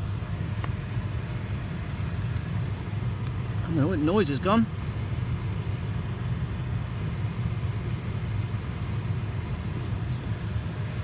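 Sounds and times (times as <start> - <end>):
heater blower fan rumble: 0.0 - 11.0.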